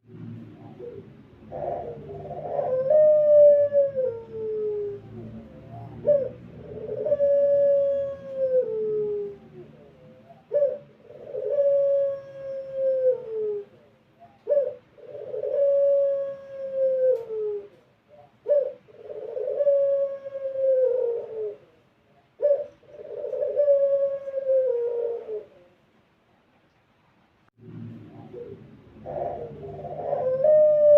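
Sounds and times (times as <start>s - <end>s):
dove cooing: 0.1s - 25.8s, 27.9s - 30.9s.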